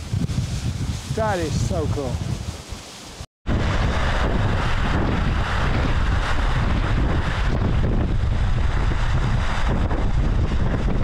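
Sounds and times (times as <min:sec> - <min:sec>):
wind buffeting microphone: 0:00.0 - 0:02.9, 0:03.5 - 0:11.0.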